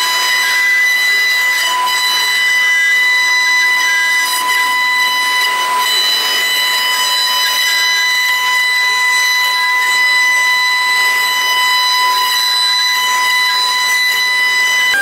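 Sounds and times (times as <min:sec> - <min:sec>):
cnc router high-pitched whine: 0:00.0 - 0:15.0.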